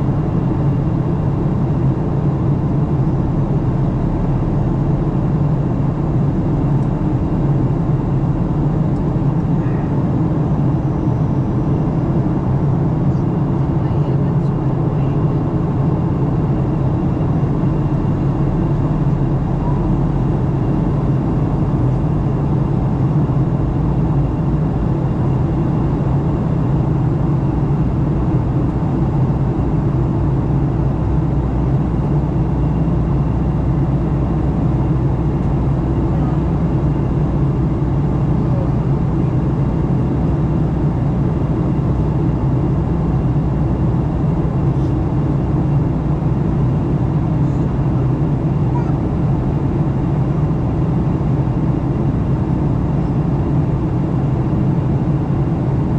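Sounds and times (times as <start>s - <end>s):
jet engine cabin roar: 0.0s - 55.9s.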